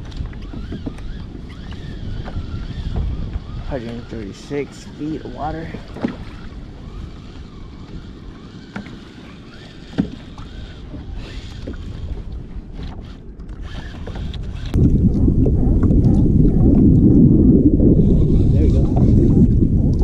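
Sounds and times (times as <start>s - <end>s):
water noise: 0.0s - 20.0s
wind rumble on microphone: 0.0s - 20.0s.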